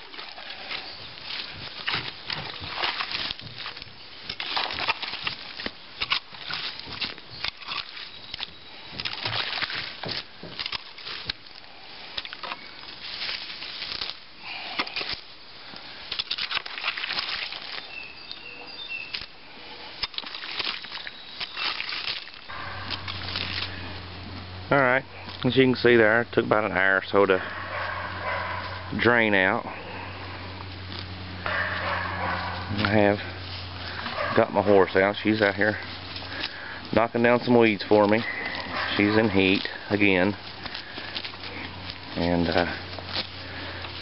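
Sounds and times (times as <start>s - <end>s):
hoe scraping wet soil: 0.0s - 44.0s.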